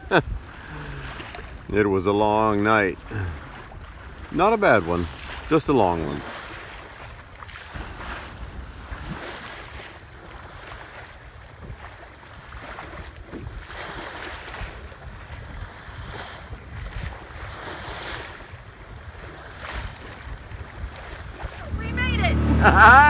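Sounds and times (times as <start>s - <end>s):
wind buffeting microphone: 0.0s - 4.4s, 6.2s - 23.0s
water splashing along a boat hull: 0.0s - 23.0s.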